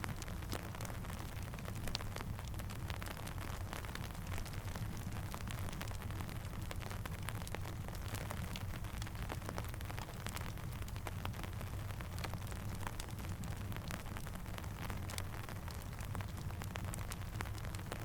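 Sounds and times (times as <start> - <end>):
campfire crackling and popping: 0.0 - 18.0
steady rain: 0.0 - 18.0.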